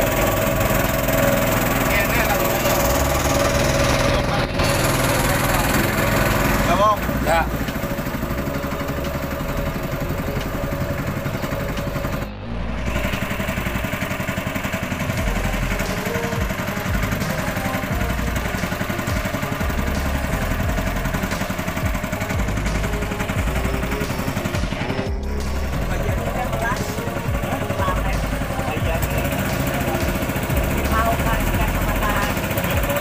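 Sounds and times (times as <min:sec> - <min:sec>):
boat motor running: 0:00.0 - 0:33.0.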